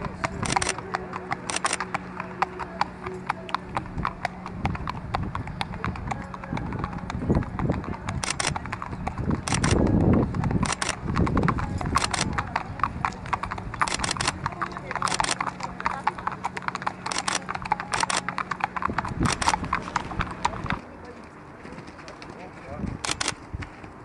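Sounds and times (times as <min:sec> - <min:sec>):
low rumbling noise: 0:00.0 - 0:21.6
hooves clip-clopping on pavement: 0:00.0 - 0:24.0.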